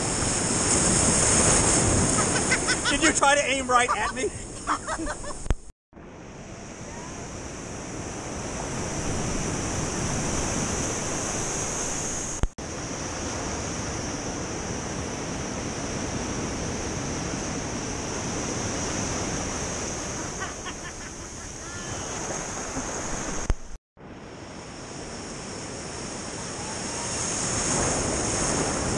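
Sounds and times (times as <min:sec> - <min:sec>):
ocean surf washing up beach: 0:00.0 - 0:05.4, 0:06.1 - 0:28.9.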